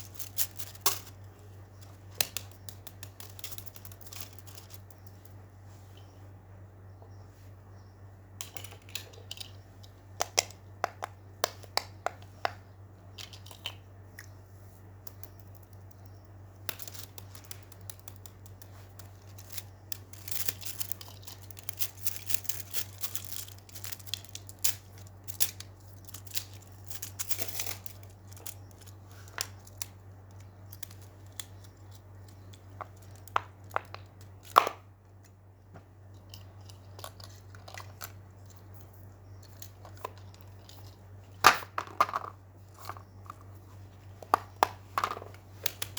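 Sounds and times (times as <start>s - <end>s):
rustling and crinkling: 0.0s - 6.4s, 14.5s - 45.9s
steady low hum: 0.0s - 45.9s.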